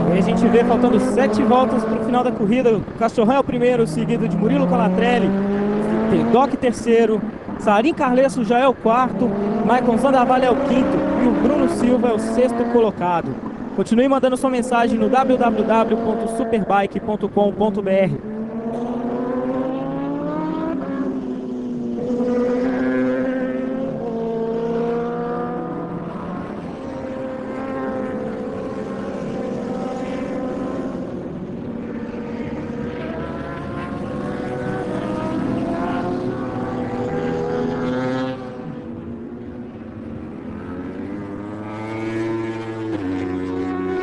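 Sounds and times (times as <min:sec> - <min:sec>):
racing motorcycles at high revs: 0:00.0 - 0:44.0.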